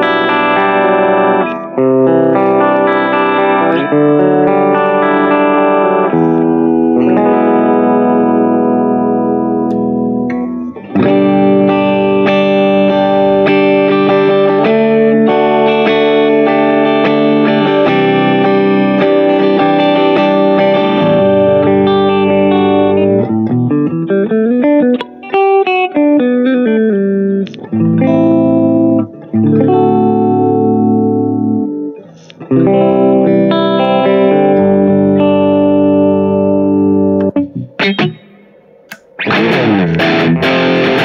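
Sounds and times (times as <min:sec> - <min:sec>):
electric guitar chords ringing: 0:00.0 - 0:41.0
electric guitar single notes: 0:00.0 - 0:41.0.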